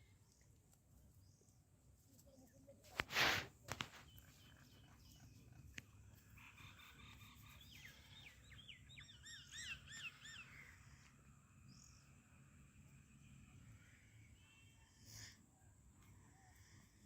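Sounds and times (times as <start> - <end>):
faint bird chirps: 0.0 - 3.0, 3.7 - 17.0.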